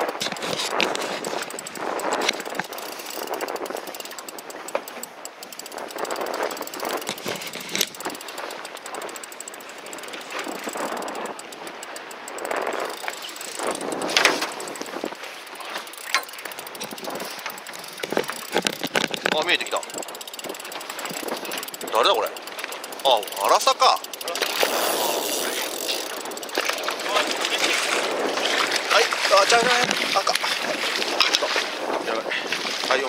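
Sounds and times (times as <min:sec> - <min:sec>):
sharp clicks: 0:00.0 - 0:27.5
fishing reel cranking: 0:00.0 - 0:31.4
waves rushing against boat: 0:00.0 - 0:33.0
wind: 0:00.0 - 0:33.0.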